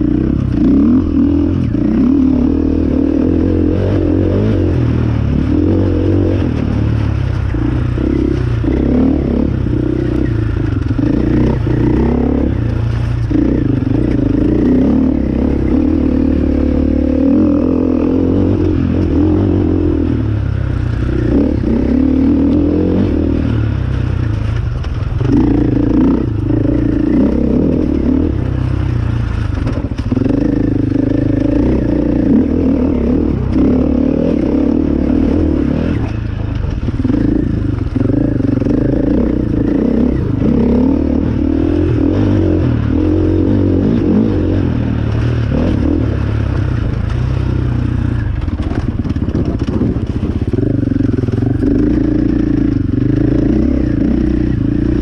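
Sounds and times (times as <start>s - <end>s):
clatter and scraping over rough ground: 0.0s - 55.0s
dirt bike engine revving: 0.0s - 55.0s.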